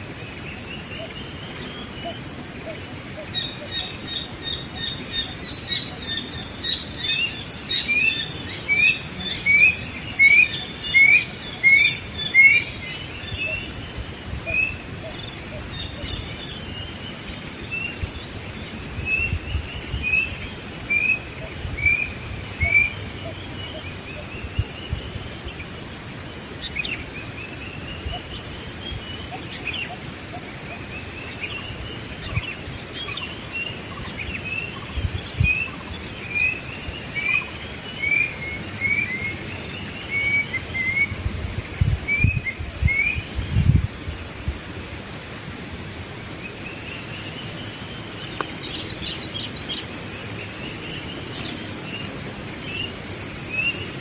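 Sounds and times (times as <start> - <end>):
birds chirping: 0.0 - 44.3, 46.2 - 54.0
insect drone: 0.0 - 54.0.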